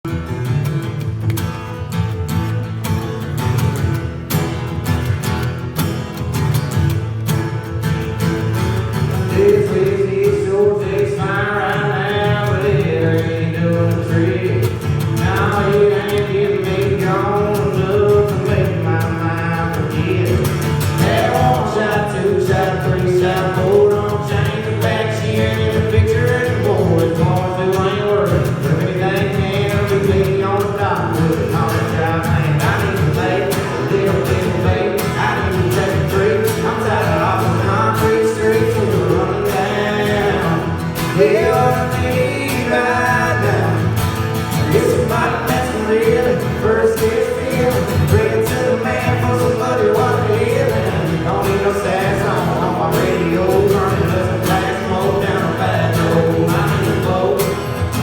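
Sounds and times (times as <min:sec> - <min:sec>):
country band with guitars: 0:00.0 - 0:58.0
voices singing: 0:08.9 - 0:58.0.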